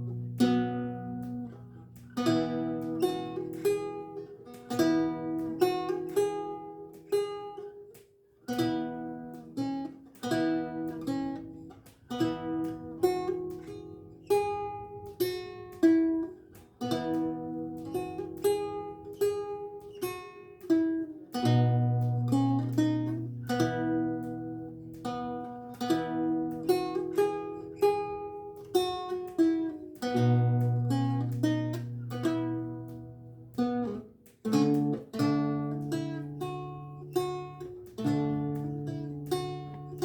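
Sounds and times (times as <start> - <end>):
lute plucking notes and chords: 0.0 - 40.0.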